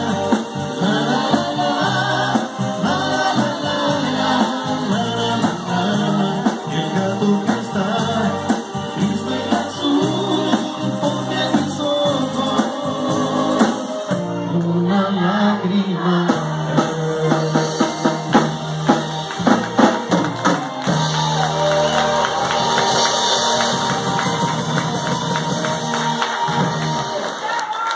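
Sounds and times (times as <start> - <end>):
live band playing: 0.0 - 27.9.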